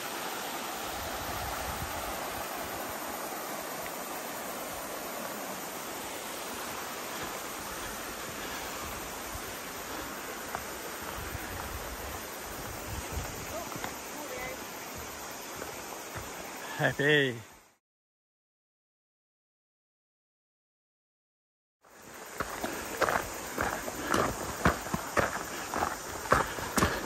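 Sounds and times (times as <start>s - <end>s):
river water rushing: 0.0s - 17.2s, 21.9s - 27.0s.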